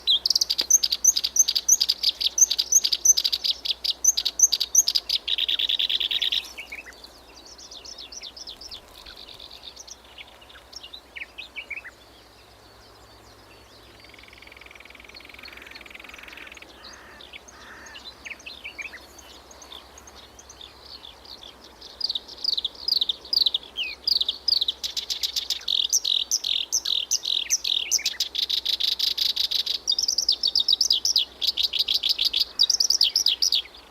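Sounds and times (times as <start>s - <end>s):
warbler singing: 0.0s - 33.9s.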